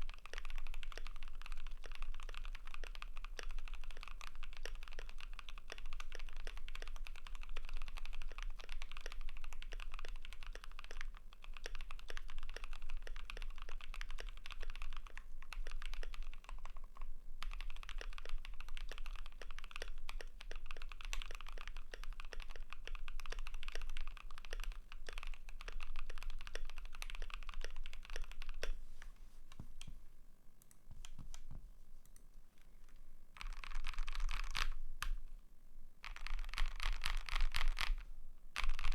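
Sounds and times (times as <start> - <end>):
mechanical keyboard typing: 0.0 - 28.8, 33.4 - 35.2, 36.0 - 38.0, 38.6 - 38.9.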